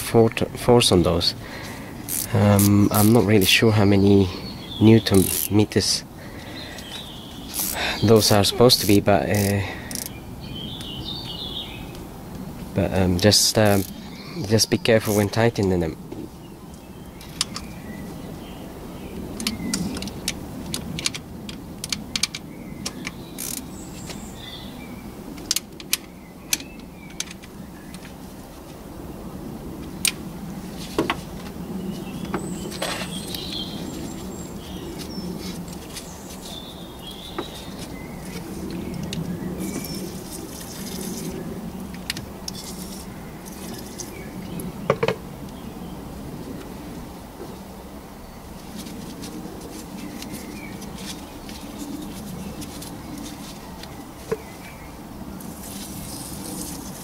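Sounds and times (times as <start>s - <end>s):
birds chirping: 0.1s - 28.2s, 29.0s - 57.0s.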